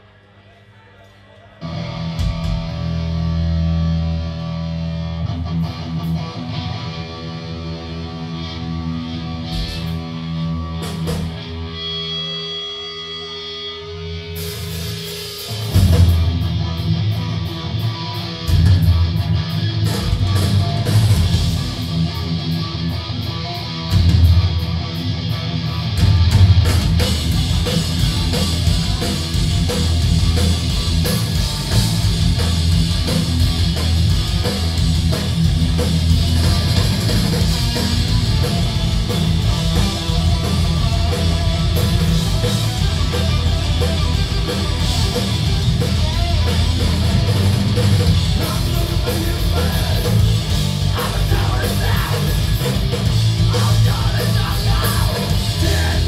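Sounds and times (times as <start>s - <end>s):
distorted electric guitars: 1.6s - 56.0s
rock band playing live: 1.6s - 56.0s.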